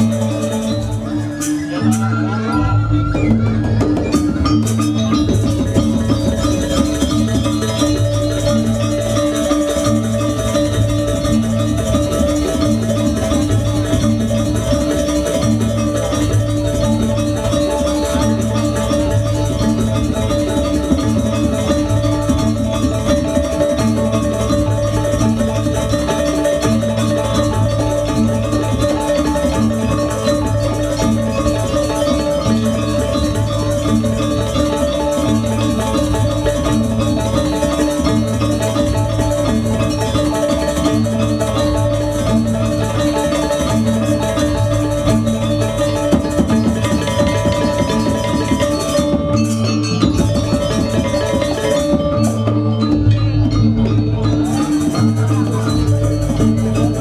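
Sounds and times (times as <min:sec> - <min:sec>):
gamelan music: 0:00.0 - 0:57.0
metallophones ringing: 0:00.0 - 0:57.0.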